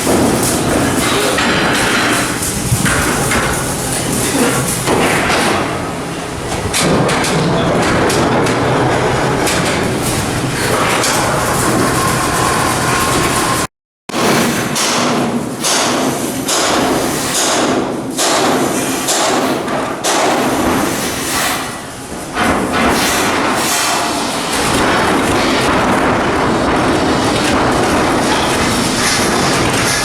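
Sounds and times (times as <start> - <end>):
continuous machinery noise: 0.0 - 30.0
metal knocks and bangs: 0.0 - 30.0.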